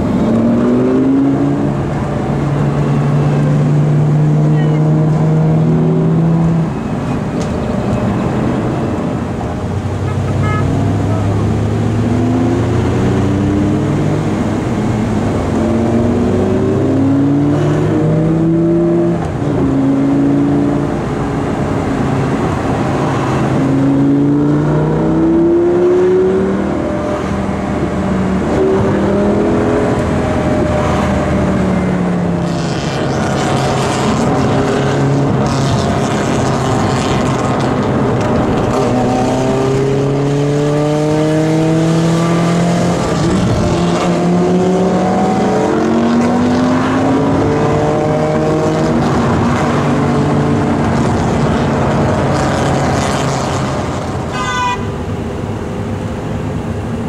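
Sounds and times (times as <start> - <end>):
car engine accelerating hard: 0.0 - 54.3.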